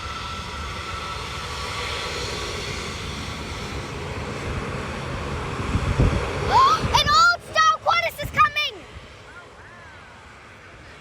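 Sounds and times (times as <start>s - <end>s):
faint jet whine: 0.0s - 11.0s
jet engines rushing: 0.0s - 11.0s.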